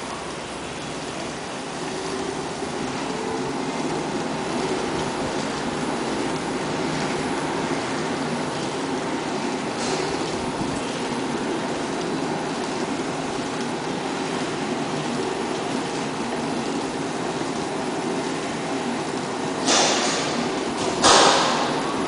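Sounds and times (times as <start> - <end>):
wrapping machine running: 0.0 - 22.0.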